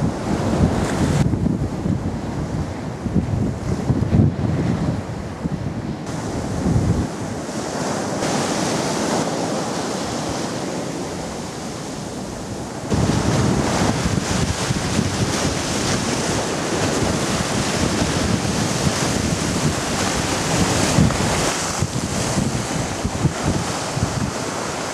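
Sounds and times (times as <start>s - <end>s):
sea waves washing: 0.0s - 24.9s
wind buffeting microphone: 0.0s - 24.9s.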